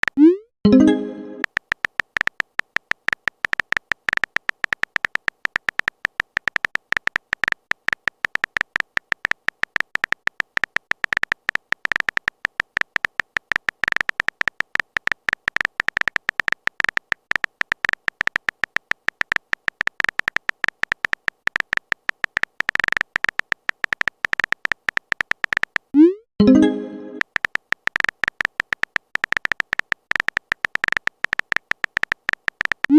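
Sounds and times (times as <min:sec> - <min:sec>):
electronic beeping clicks: 0:00.0 - 0:32.9.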